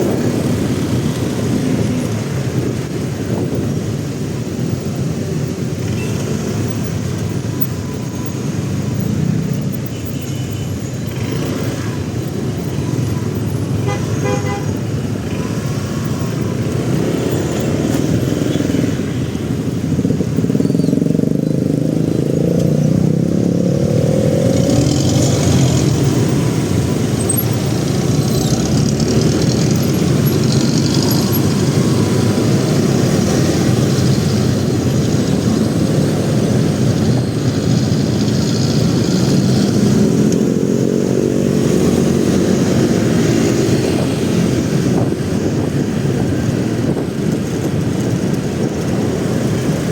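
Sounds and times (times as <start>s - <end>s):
motorcycle engine: 0.0s - 49.9s
road noise: 0.0s - 49.9s.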